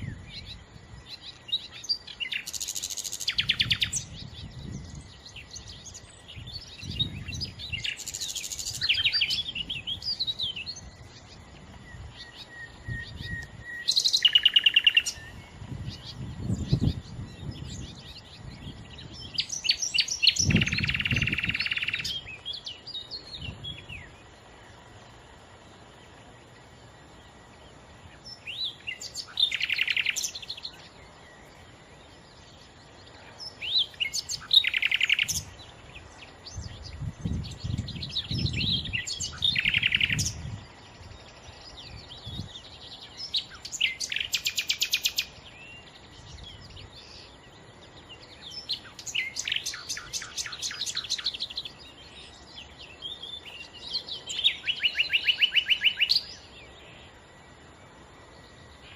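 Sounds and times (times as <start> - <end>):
nightingale singing: 0.0 - 58.9.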